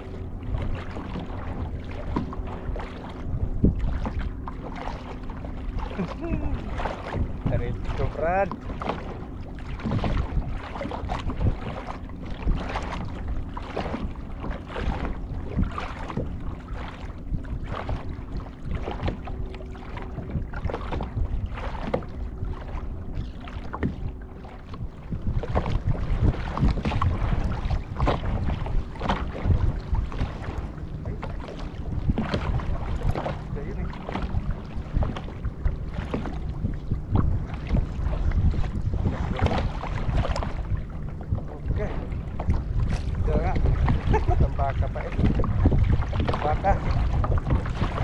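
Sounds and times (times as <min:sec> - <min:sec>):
knocks and clunks on hull: 0:00.0 - 0:48.0
water sloshing against hull: 0:00.0 - 0:48.0
wind on microphone: 0:00.0 - 0:48.0.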